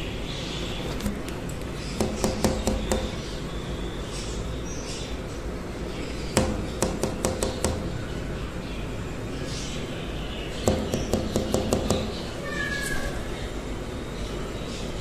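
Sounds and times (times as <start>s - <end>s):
steady low background noise: 0.0s - 15.0s.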